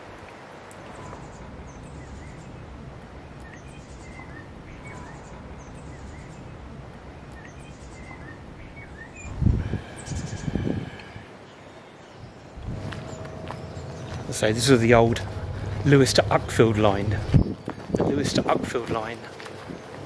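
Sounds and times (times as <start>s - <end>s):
small birds chirping: 0.7s - 20.0s
wind rumble on microphone: 1.0s - 11.4s, 12.2s - 20.0s.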